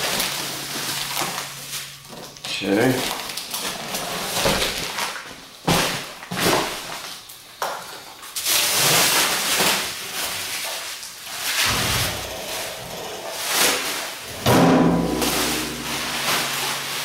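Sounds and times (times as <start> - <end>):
plastic wrapping crinkling: 0.0 - 14.4, 15.0 - 17.0.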